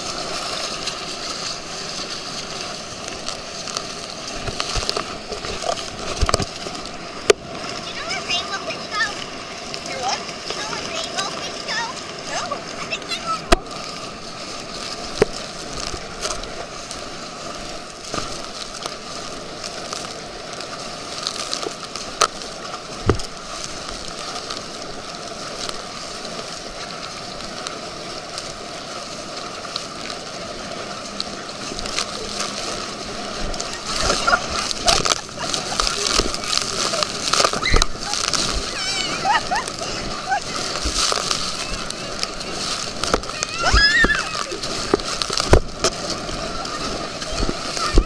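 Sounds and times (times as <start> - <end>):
water rushing and splashing: 0.0 - 48.0.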